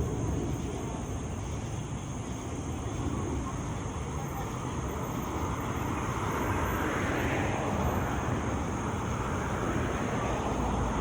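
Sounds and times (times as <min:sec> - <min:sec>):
passing traffic engine noise: 0:00.0 - 0:11.0.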